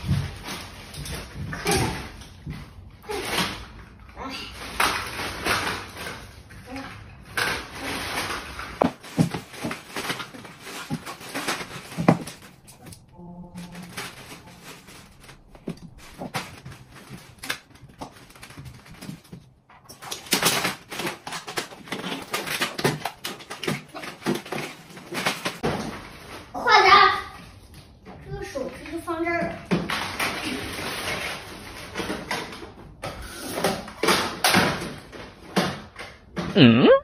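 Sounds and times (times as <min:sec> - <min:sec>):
plastic toys clattering on floor: 0:00.0 - 0:36.6.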